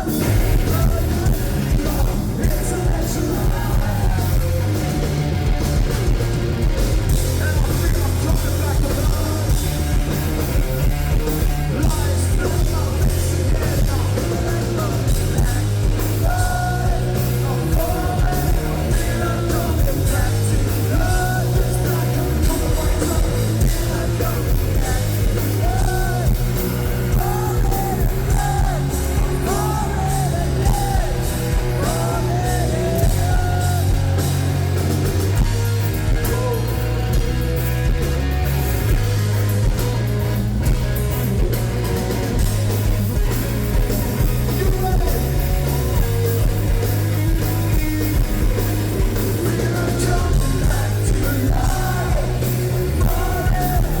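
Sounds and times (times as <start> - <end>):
person singing: 0.0 - 5.2, 7.1 - 37.2, 43.2 - 54.0
rock band playing live: 0.0 - 54.0.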